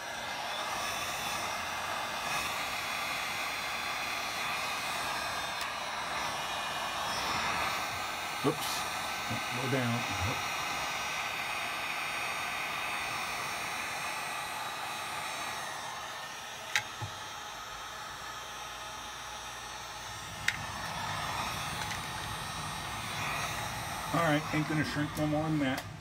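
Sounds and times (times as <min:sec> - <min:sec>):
heat gun blowing: 0:00.0 - 0:26.0.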